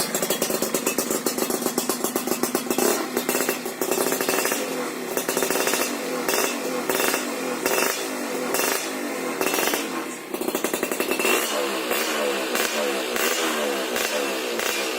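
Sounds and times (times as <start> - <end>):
two-stroke engine revving: 0.0 - 14.9.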